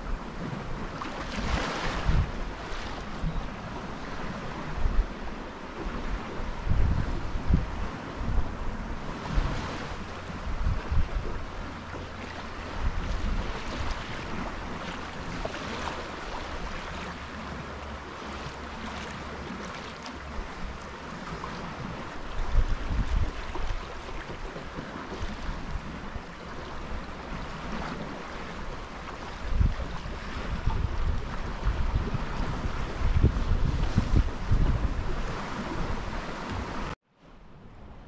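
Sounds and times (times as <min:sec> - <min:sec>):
wind gusting on microphone: 0:00.0 - 0:18.7, 0:20.2 - 0:38.0
water running along hull: 0:00.0 - 0:37.0.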